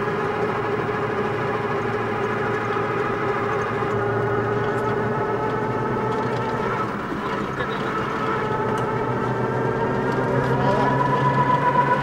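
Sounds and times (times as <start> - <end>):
small vehicle engine running: 0.0 - 12.0.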